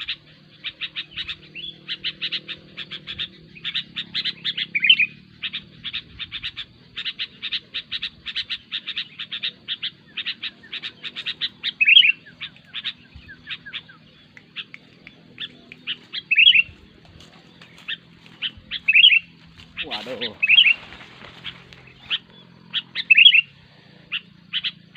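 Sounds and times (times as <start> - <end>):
bird chattering: 0.0 - 24.9
loud slurred bird call: 0.0 - 24.9.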